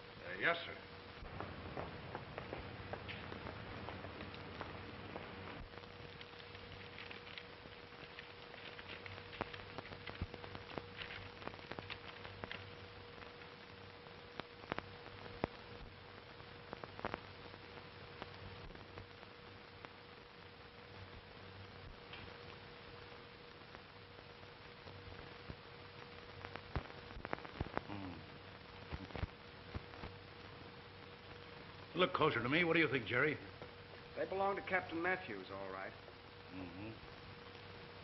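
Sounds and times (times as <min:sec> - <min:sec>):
crackles: 0:00.0 - 0:38.0
faint steady hum: 0:00.0 - 0:38.0
film soundtrack hiss: 0:00.0 - 0:38.0.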